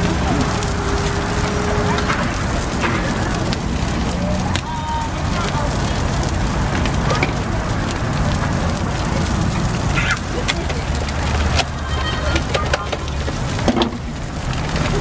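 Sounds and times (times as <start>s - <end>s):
grease popping: 0.0s - 15.0s
low steady rumble: 0.0s - 15.0s
patties sizzling on a griddle: 0.0s - 15.0s.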